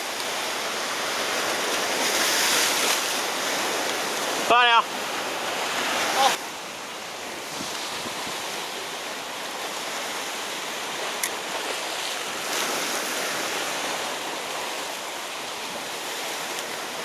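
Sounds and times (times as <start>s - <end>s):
surf on rocky shore: 0.0s - 17.0s.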